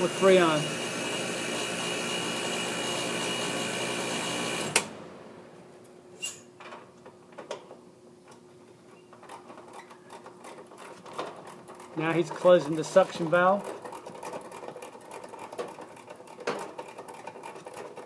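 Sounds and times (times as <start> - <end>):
air conditioner compressor running: 0.0 - 18.0.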